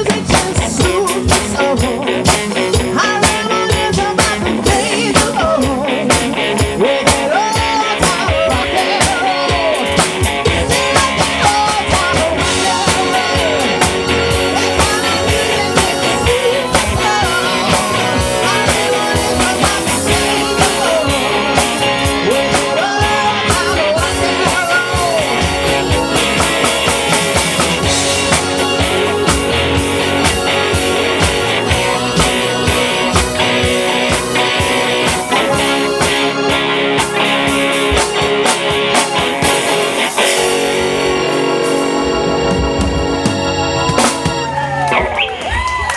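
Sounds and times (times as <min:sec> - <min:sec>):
person singing: 0:00.0 - 0:38.3
drum kit: 0:00.0 - 0:45.9
electric guitar: 0:00.0 - 0:45.9
keyboards: 0:00.0 - 0:45.9
live rock band playing: 0:00.0 - 0:45.9.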